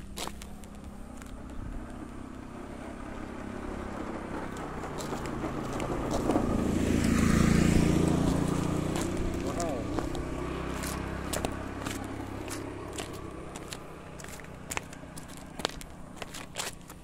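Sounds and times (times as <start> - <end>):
motor scooter engine passing: 0.0 - 17.0.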